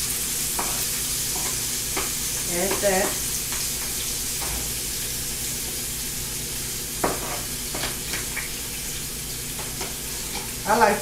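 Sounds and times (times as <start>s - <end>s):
vegetables sizzling in a skillet: 0.0s - 11.0s.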